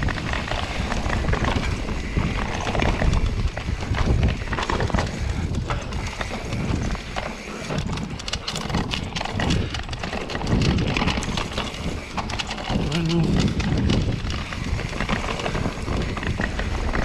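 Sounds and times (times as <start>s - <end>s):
bike rattling and clicking: 0.0s - 17.0s
bike tyres rumbling over dirt: 0.0s - 17.0s.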